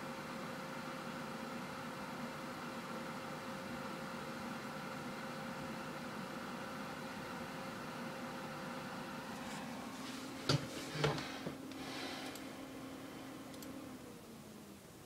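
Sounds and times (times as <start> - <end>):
computer fans whirring: 0.0 - 15.0.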